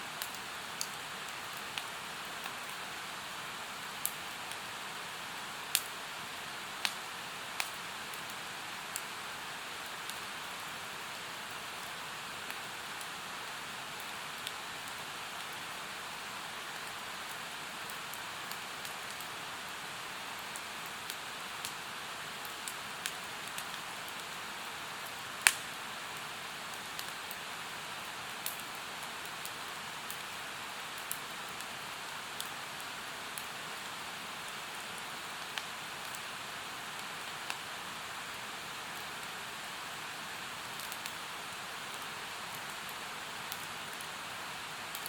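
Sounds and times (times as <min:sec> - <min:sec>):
campfire crackling and popping: 0:00.2 - 0:02.9, 0:03.8 - 0:04.8, 0:05.7 - 0:13.3, 0:16.6 - 0:19.8, 0:20.4 - 0:24.3, 0:25.0 - 0:44.2.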